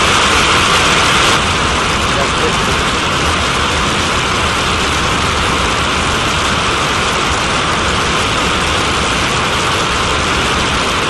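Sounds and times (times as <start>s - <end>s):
jet engine exhaust rushing: 0.0s - 11.0s.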